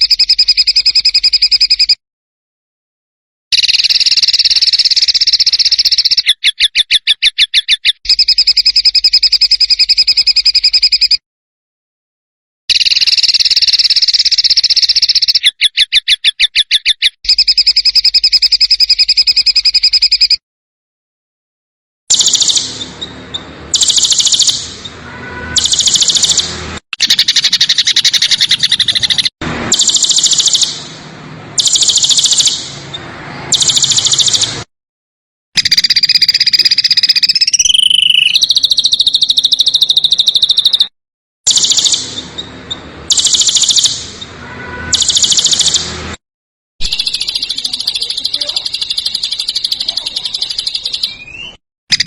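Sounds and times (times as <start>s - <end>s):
songbirds buzzy trills: 0.0s - 2.0s, 3.6s - 11.2s, 12.7s - 20.4s, 22.1s - 30.9s, 31.6s - 34.6s, 35.6s - 40.9s, 41.5s - 44.4s, 46.8s - 52.0s.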